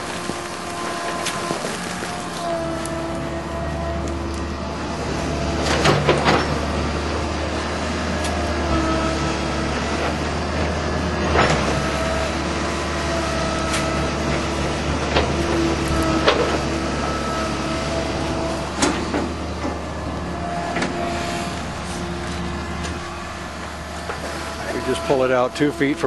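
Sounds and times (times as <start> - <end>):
excavator diesel engine running: 0.0 - 26.0
hydraulic whine: 0.0 - 26.0.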